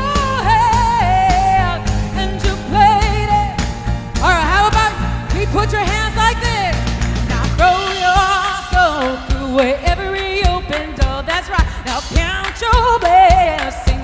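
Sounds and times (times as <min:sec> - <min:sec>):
pop band with drum beat: 0:00.0 - 0:14.0
woman singing with vibrato: 0:00.0 - 0:14.0.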